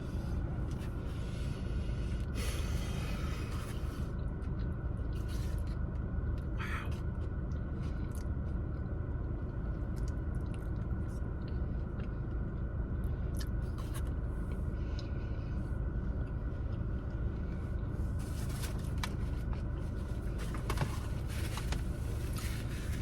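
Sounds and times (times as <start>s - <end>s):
low rumble inside car: 0.0s - 23.0s.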